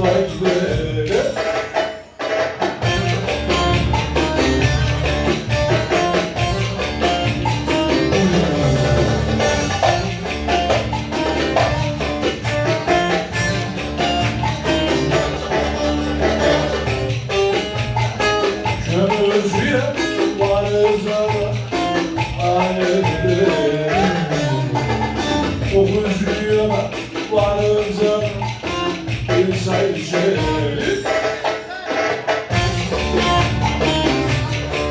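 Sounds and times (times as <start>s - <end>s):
fast jingling percussion: 0.0s - 34.9s
bending melody line: 2.8s - 31.0s, 32.5s - 34.9s.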